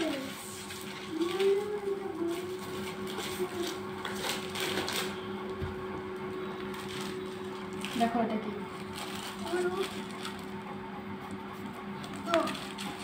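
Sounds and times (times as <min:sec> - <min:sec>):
plastic wrapping crinkling: 0:00.0 - 0:05.6, 0:06.6 - 0:10.5, 0:12.0 - 0:13.0.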